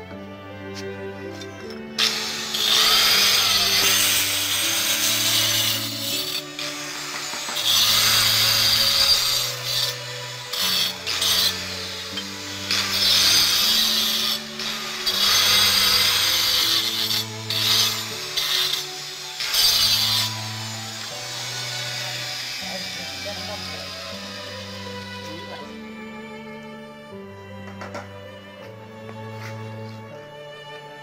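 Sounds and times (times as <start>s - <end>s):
angle grinder cutting stone: 1.4s - 26.8s.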